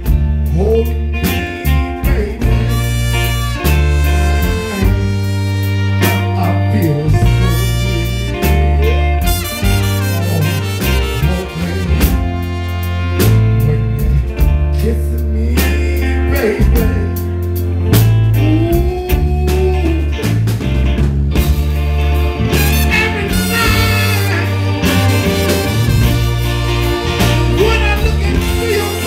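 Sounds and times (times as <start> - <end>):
bass line: 0.0 - 29.0
soul band playing: 0.0 - 29.0
man singing: 0.4 - 17.5, 18.3 - 20.3, 22.5 - 25.5, 27.1 - 29.0.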